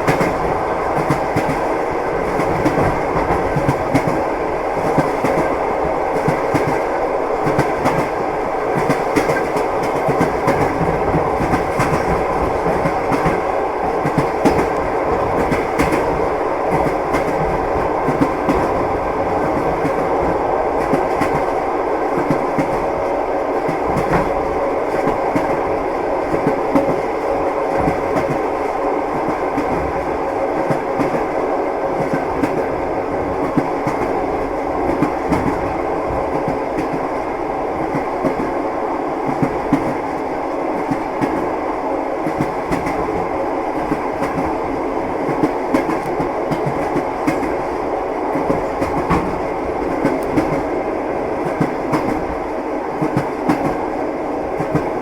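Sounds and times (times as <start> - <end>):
train wheels clattering on rails: 0.0 - 38.6, 39.2 - 41.5, 42.2 - 55.0.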